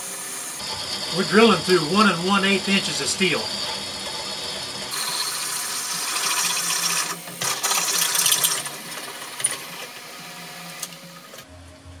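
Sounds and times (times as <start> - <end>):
drill grinding through steel: 0.0 - 11.3
drill press motor hum: 0.0 - 12.0.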